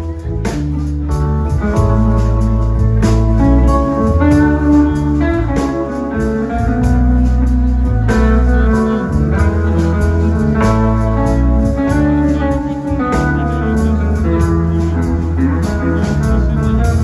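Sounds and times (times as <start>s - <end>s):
blues-rock band playing: 0.0s - 17.0s
electric guitar: 0.0s - 17.0s.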